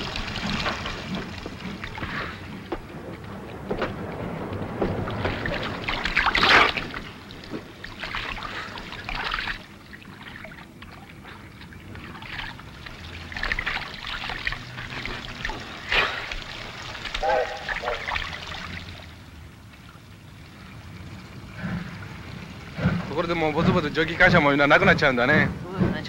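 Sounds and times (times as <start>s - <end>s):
running tap: 0.0s - 3.8s, 5.2s - 20.0s, 21.9s - 25.5s
water splashing: 0.0s - 26.0s.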